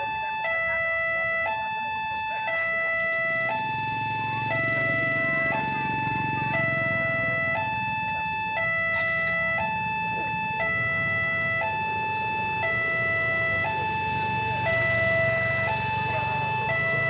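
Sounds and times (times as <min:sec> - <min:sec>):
level crossing alarm tones: 0:00.0 - 0:17.0.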